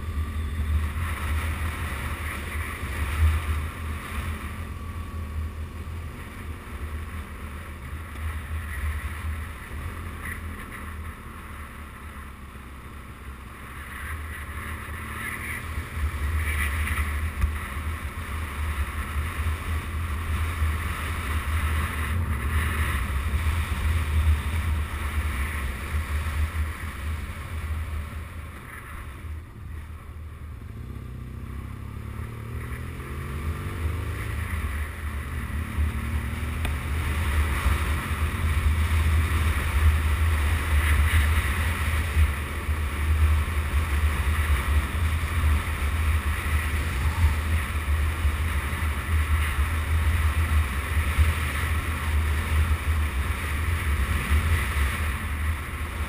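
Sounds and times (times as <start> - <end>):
motorcycle engine: 0.0 - 56.0
tyres on gravel road: 0.0 - 56.0.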